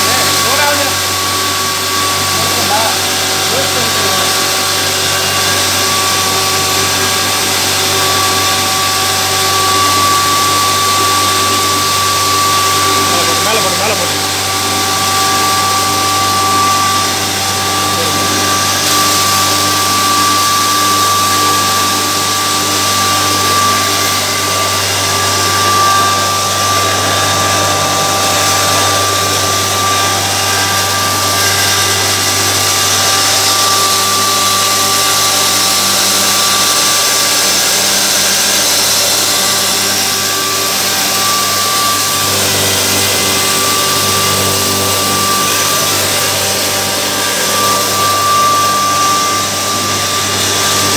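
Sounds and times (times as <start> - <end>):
electric mill grinding feed: 0.0 - 50.9.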